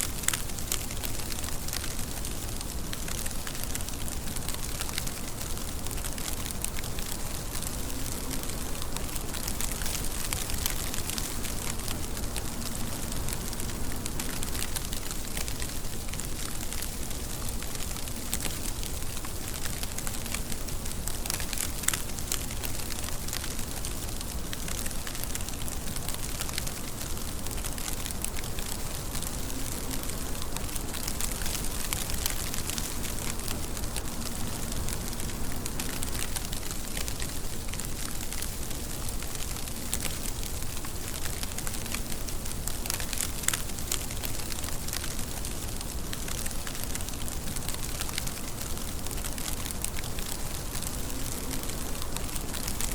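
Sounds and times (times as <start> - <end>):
rain hissing: 0.0 - 52.9
raindrops ticking: 0.0 - 52.9.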